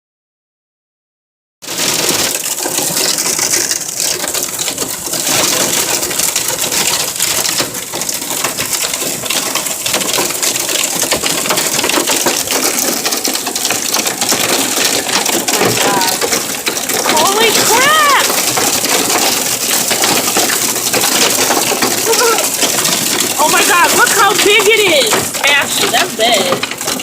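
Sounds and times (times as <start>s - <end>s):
hail clattering on car roof: 1.6s - 27.0s.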